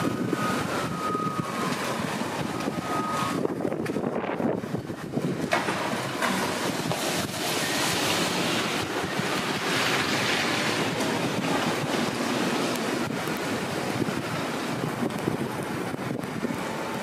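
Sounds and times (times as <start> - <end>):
wind blowing hard: 0.0 - 17.0
wind buffeting microphone: 0.0 - 17.0.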